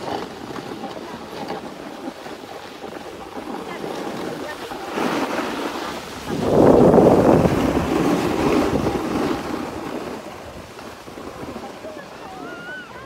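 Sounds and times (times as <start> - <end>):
skis scraping over snow: 0.0 - 12.8
wind buffeting microphone: 0.0 - 13.0.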